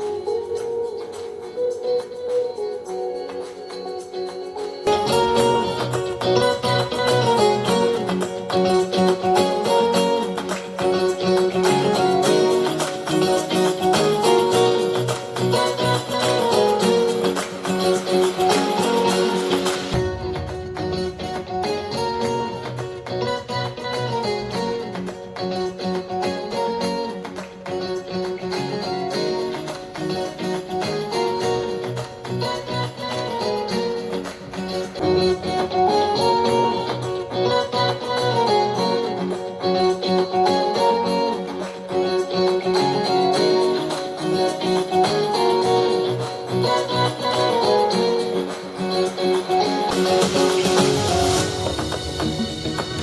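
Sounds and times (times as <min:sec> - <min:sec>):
guitar music through speaker: 0:00.0 - 0:53.0.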